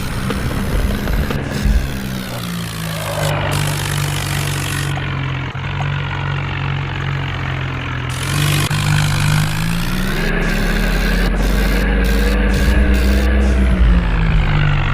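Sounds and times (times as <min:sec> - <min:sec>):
tractor engine revving: 0:00.0 - 0:14.9.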